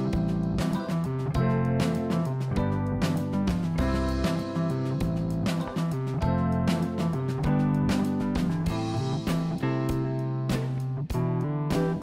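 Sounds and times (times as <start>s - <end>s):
acoustic guitar strummed and plucked: 0.0s - 12.0s
steady beat: 0.0s - 12.0s.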